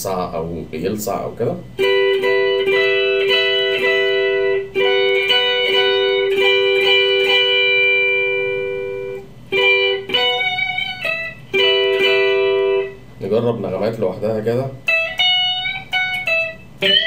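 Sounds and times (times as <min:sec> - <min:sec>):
clean electric guitar notes: 0:01.6 - 0:14.2, 0:14.8 - 0:17.0.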